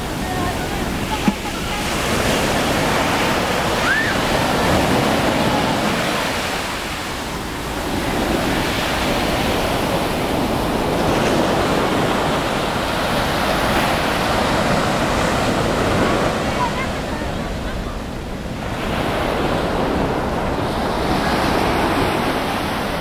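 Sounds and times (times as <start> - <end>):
sea waves breaking: 0.0 - 23.0.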